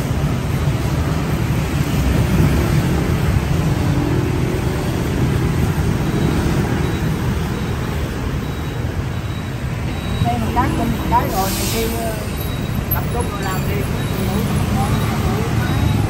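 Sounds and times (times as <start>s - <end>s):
low rumble of road traffic: 0.0s - 16.0s.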